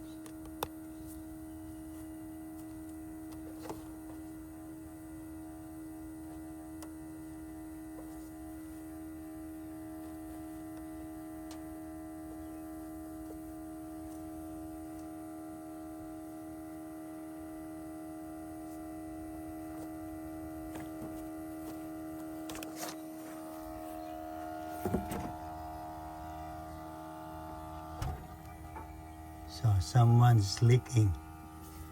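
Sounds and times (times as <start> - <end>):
machine electric hum: 0.0 - 31.9.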